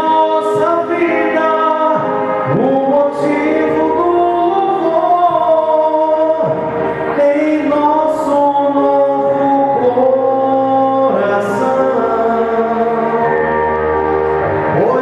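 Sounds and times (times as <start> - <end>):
electronic keyboard: 0.0 - 15.0
gospel singing: 0.0 - 15.0.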